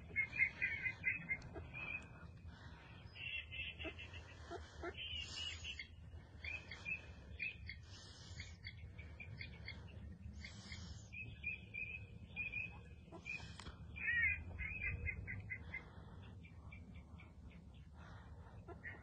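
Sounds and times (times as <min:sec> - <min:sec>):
birds chirping: 0:00.0 - 0:19.0
low steady rumble: 0:00.0 - 0:19.0.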